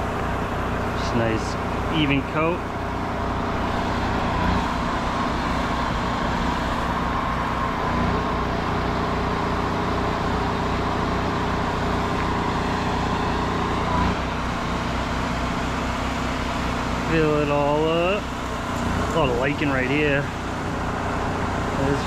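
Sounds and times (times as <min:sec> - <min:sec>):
pump motor running: 0:00.0 - 0:22.0.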